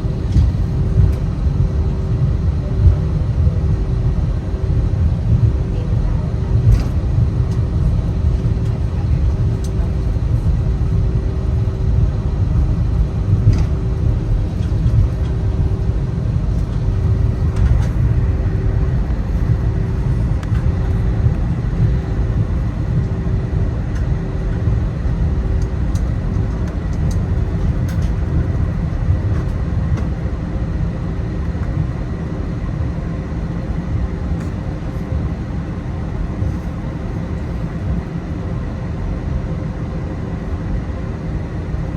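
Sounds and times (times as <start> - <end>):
faint hum: 0.0 - 41.9
jet engine and airflow rumble: 0.0 - 41.9.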